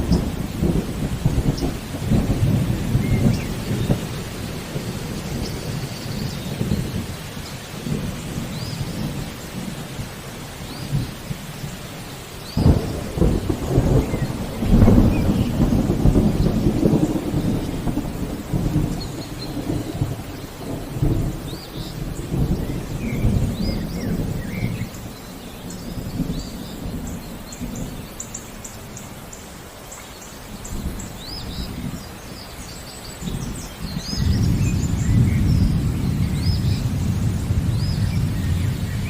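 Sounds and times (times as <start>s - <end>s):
rolling thunder: 0.0s - 28.2s, 30.6s - 39.0s
steady rain: 0.0s - 39.0s.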